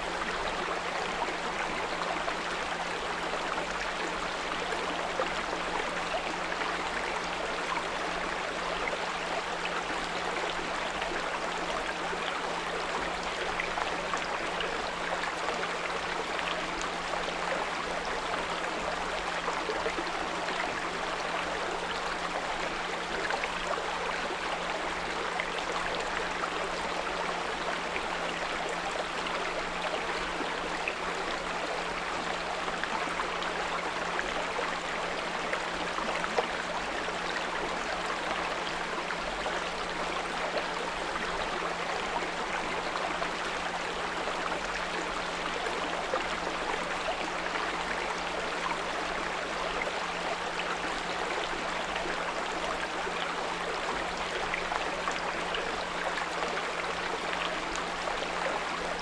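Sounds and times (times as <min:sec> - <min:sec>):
brook flowing: 0:00.0 - 0:59.0.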